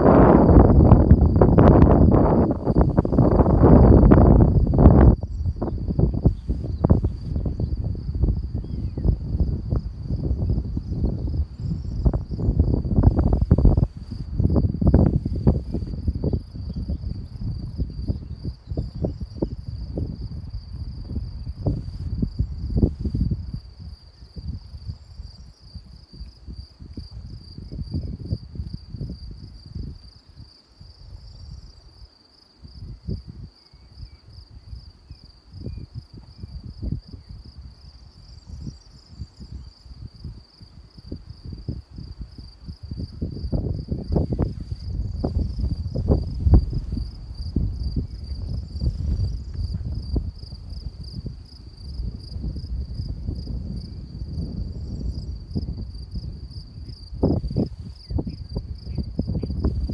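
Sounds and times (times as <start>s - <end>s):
wind buffeting microphone: 0.0s - 32.0s, 32.6s - 59.9s
crickets chirring: 0.0s - 59.9s.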